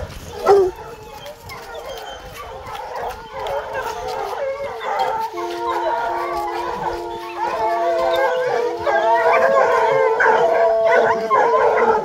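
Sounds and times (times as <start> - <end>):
hounds baying and howling: 0.0 - 12.0.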